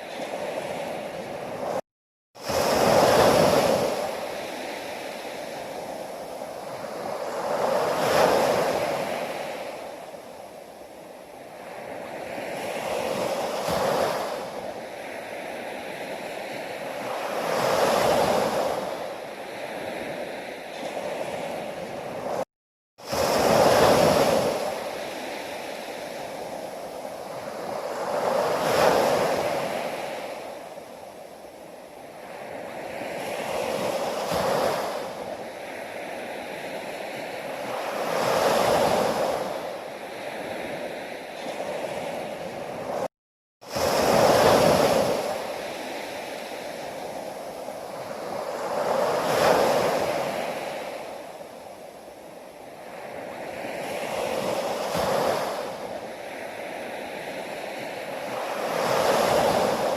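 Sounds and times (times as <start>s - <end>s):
sea waves breaking: 0.0s - 1.8s, 2.4s - 59.9s.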